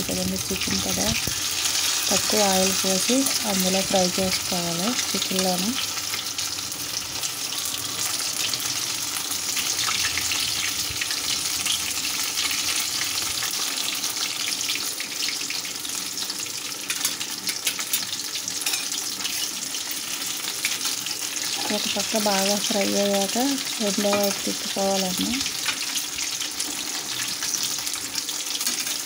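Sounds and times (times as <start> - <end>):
chicken sizzling in oil: 0.0 - 29.0.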